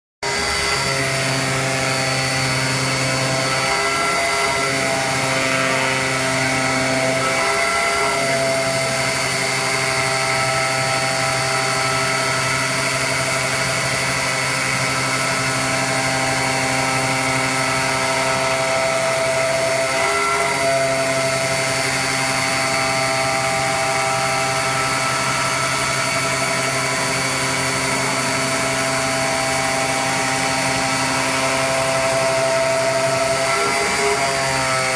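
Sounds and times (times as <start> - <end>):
cutting machine mechanical whine: 0.2 - 34.9.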